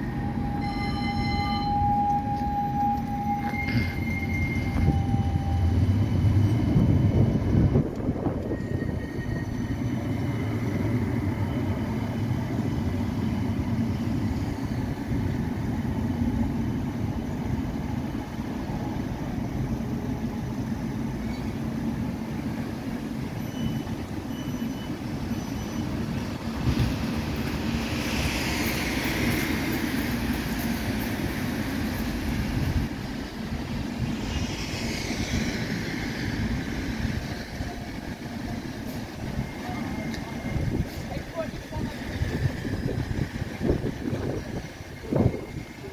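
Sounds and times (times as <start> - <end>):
tram rumble and hum: 0.0 - 45.9.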